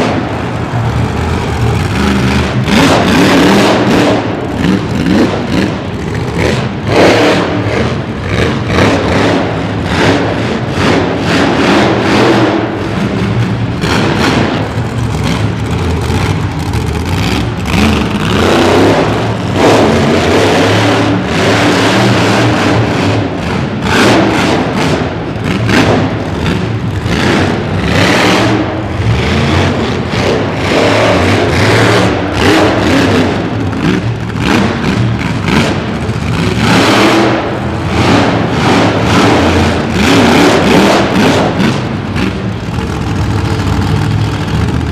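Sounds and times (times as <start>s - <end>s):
monster truck engine revving: 0.0s - 44.9s.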